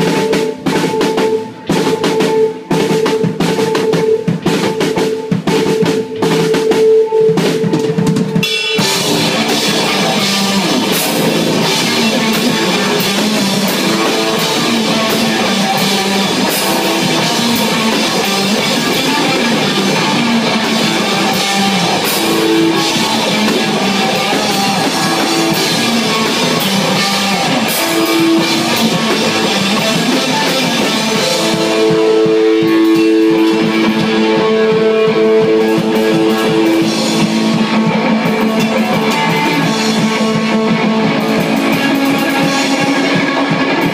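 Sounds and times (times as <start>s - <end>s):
drum hits: 0.0s - 43.9s
live rock band playing: 0.0s - 43.9s
held guitar note: 8.4s - 43.7s.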